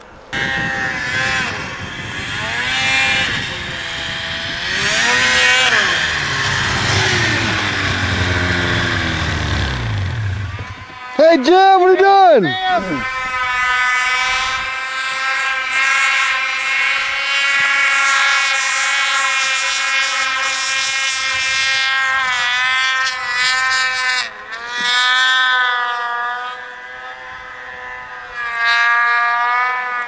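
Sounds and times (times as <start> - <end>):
snowmobile engine revving: 0.3 - 30.0.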